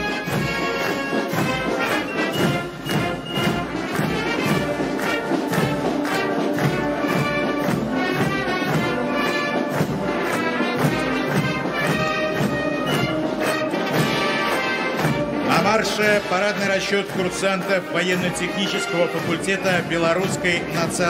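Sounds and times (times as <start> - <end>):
brass band playing a march: 0.0 - 21.0.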